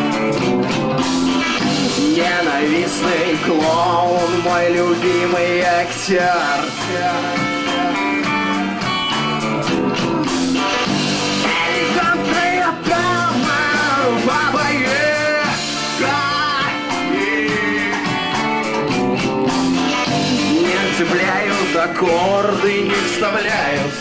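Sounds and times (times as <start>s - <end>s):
pitch-bending lead guitar line: 0.0s - 24.0s
rock band playing: 0.0s - 24.0s
person singing: 1.7s - 10.3s, 11.4s - 18.8s, 20.2s - 24.0s.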